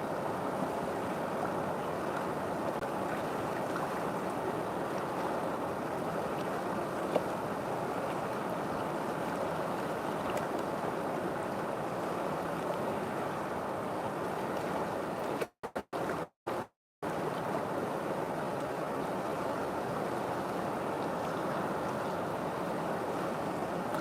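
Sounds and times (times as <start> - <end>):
river water rushing: 0.0 - 15.1, 16.0 - 24.0.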